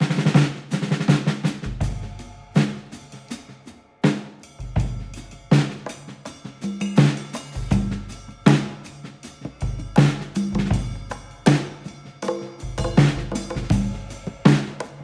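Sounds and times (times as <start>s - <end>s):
drum-driven music: 0.0s - 15.0s.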